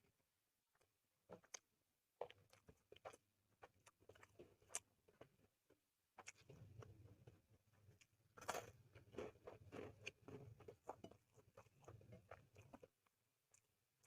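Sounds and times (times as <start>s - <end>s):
mouth chewing and smacking: 0.7s - 14.0s.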